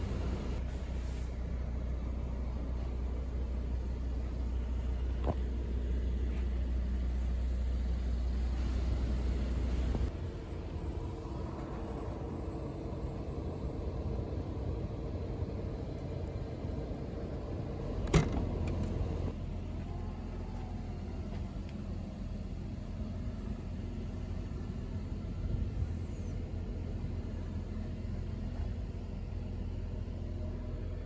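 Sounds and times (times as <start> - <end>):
low vehicle rumble: 0.0 - 31.0.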